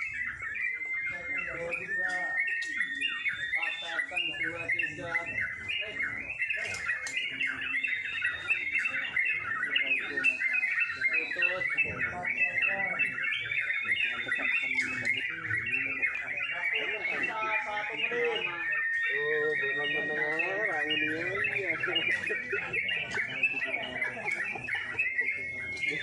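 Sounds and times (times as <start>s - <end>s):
bulbuls chirping: 0.0s - 26.0s.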